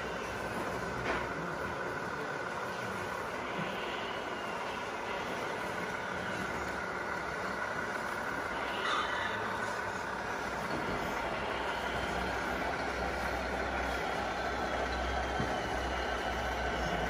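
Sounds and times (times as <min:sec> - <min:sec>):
faint high whine: 0:00.0 - 0:17.0
model trucks mechanical hum: 0:00.0 - 0:17.0.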